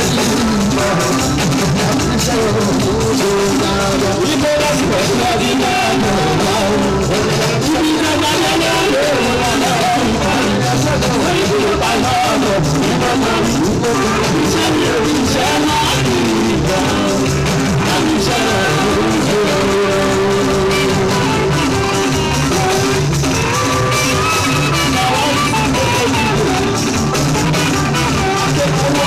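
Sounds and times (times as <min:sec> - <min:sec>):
live band accompaniment: 0:00.0 - 0:29.0
man singing into a microphone: 0:00.0 - 0:29.0
steady bass: 0:00.0 - 0:29.0.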